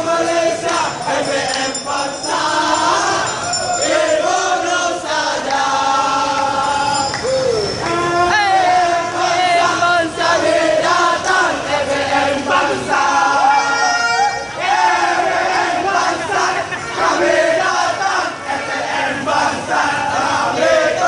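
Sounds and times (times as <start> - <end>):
football supporters chanting: 0.0 - 13.9, 14.5 - 21.0.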